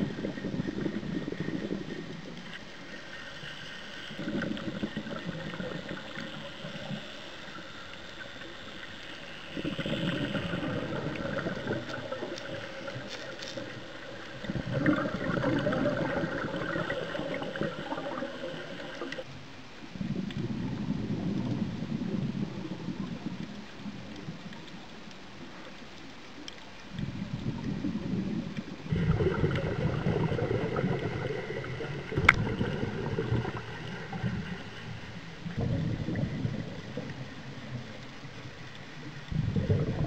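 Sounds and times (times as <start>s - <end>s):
exhaled bubbles gurgling underwater: 0.0s - 40.0s.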